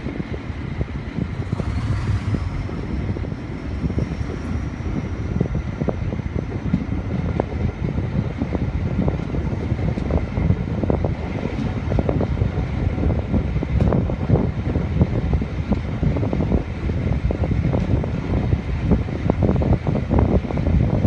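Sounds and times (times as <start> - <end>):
train running noise: 0.0 - 21.0
wind buffeting microphone: 0.0 - 21.0.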